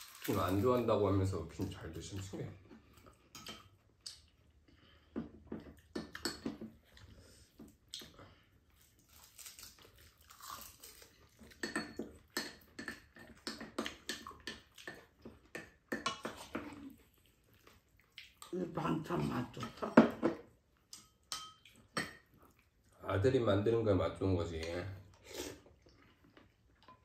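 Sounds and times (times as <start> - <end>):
people chewing and eating: 0.0 - 27.0.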